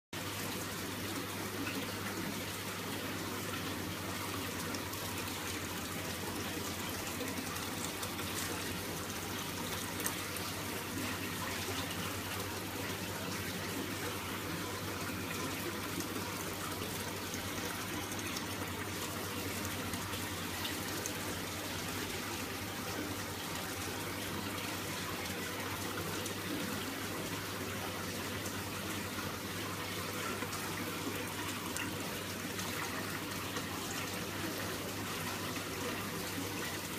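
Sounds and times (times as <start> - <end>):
water splashing in an aquarium: 0.2 - 36.9.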